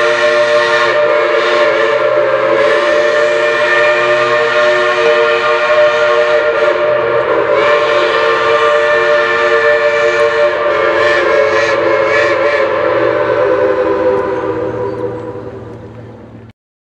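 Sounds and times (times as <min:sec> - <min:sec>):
steam locomotive chime whistle: 0:00.0 - 0:16.4.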